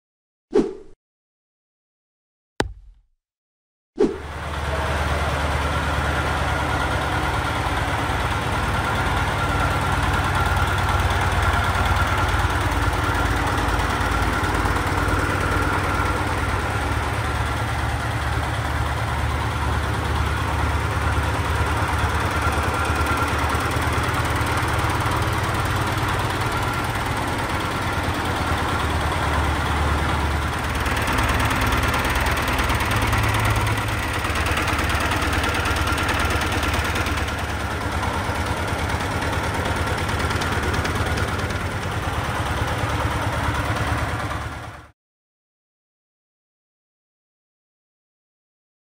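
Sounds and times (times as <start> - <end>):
tractor engine idling: 4.3 - 44.9.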